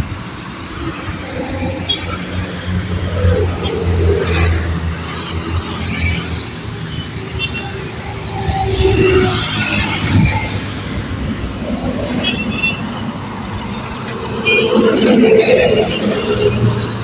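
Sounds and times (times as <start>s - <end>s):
cars passing: 0.0s - 17.0s
motorcycles passing: 0.0s - 17.0s.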